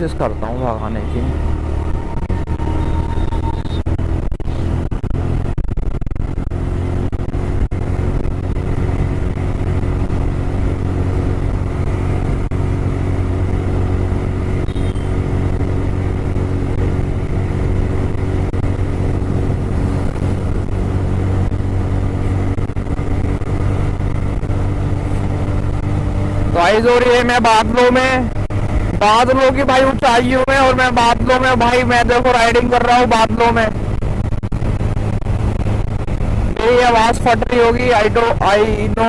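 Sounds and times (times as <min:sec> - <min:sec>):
motorcycle engine running steadily: 0:00.0 - 0:39.0.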